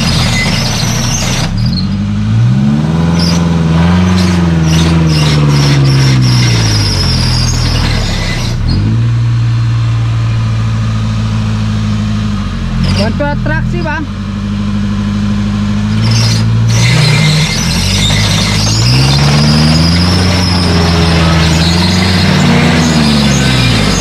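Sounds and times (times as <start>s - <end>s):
buggy engine revving: 0.0s - 24.0s.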